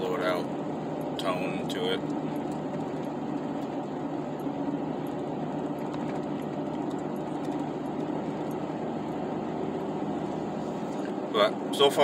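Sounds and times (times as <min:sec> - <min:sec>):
engine exhaust drone: 0:00.0 - 0:12.0
road noise: 0:00.0 - 0:12.0.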